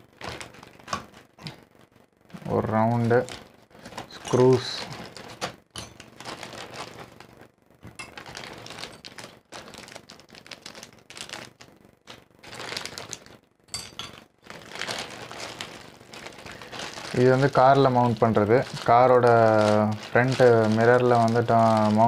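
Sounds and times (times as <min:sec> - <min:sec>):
plastic bags rustling and crinkling: 0:00.0 - 0:22.0.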